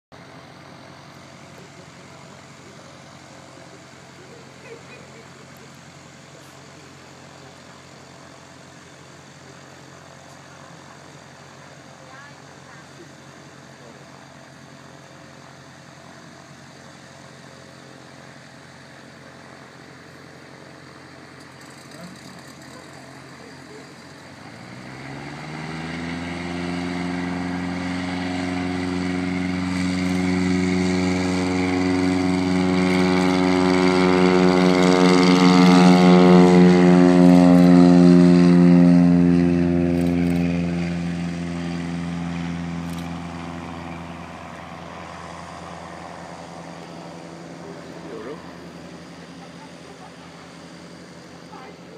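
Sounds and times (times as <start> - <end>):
propeller plane engine: 0.1 - 51.9.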